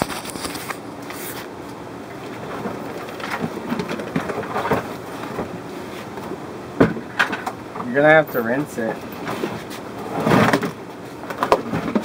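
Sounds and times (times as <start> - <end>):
handling clicks and rustles: 0.0 - 12.0.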